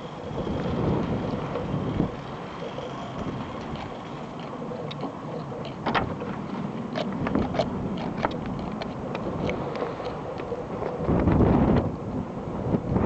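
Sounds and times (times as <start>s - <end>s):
sharp ticks and clicks: 0.0s - 12.0s
blizzard wind blowing: 0.0s - 13.0s.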